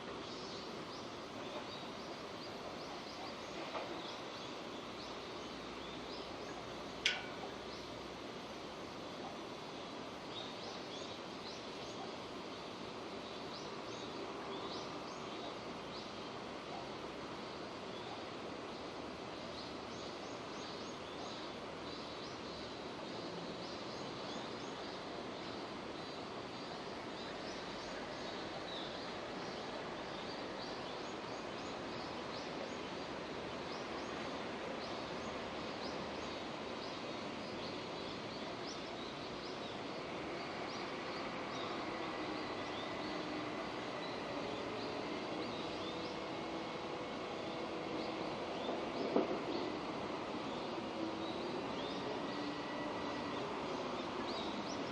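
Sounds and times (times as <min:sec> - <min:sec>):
steady rain hissing: 0:00.0 - 0:54.9.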